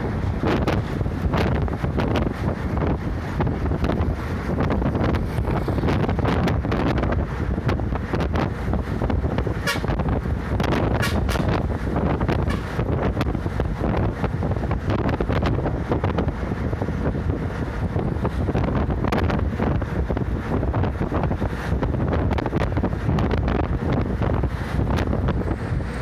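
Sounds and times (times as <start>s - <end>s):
bus rumbling: 0.0s - 26.0s
wind buffeting microphone: 0.0s - 26.0s.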